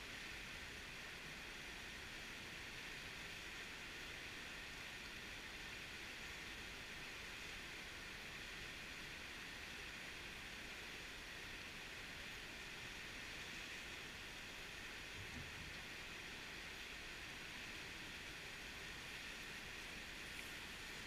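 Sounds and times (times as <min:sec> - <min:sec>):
river rapids rushing over rocks: 0:00.1 - 0:21.0.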